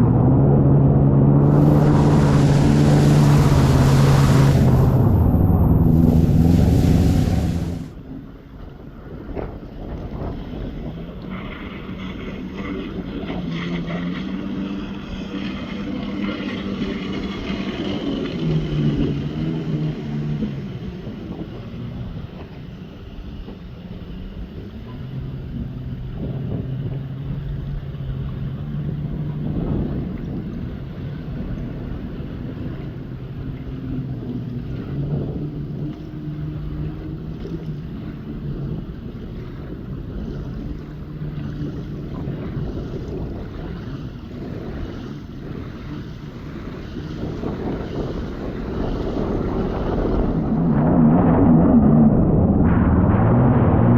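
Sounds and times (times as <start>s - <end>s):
wind buffeting microphone: 0.0s - 8.0s, 8.9s - 53.9s
jet ski engine running: 0.0s - 53.9s
water rushing past hull: 0.0s - 53.9s.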